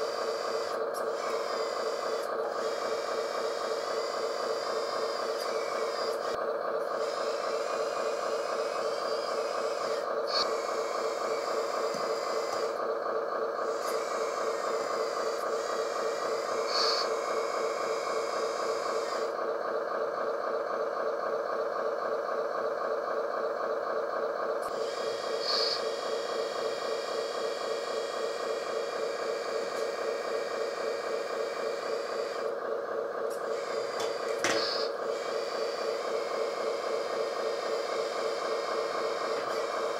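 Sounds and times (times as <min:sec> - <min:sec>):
electric hydraulic pump whine: 0:00.0 - 0:39.9.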